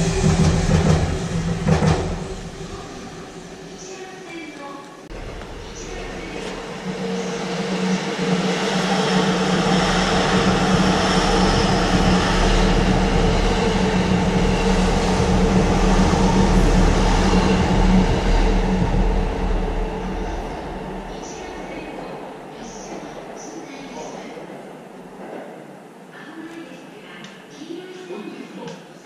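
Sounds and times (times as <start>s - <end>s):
electric train rumbling on rails: 0.0s - 28.4s.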